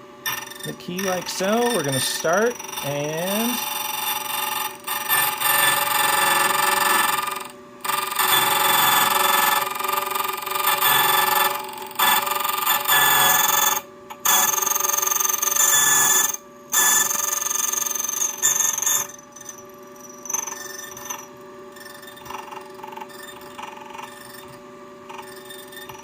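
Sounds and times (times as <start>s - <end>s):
key cutting machine whine and grind: 0.0s - 26.0s.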